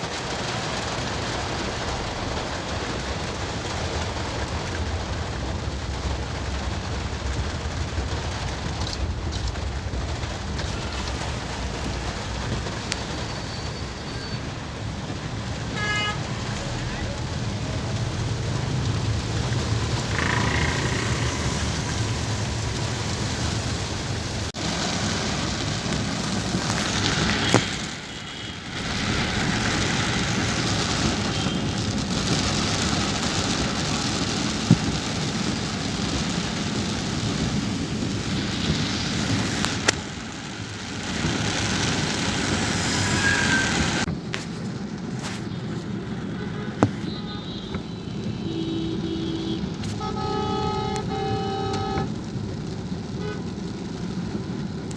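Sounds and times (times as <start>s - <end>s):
rain on a moving car: 0.0s - 54.9s
road noise: 0.0s - 54.9s.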